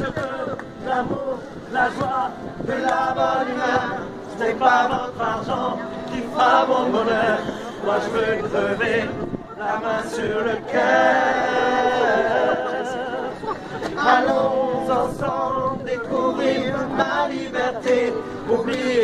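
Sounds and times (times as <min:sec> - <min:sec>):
man and woman singing: 0:00.0 - 0:19.0.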